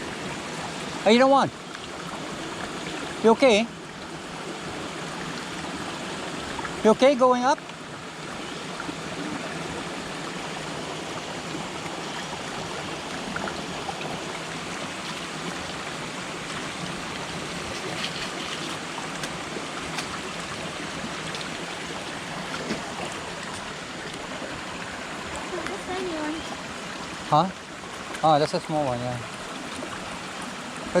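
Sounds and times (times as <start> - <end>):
river cascades rushing: 0.0 - 31.0.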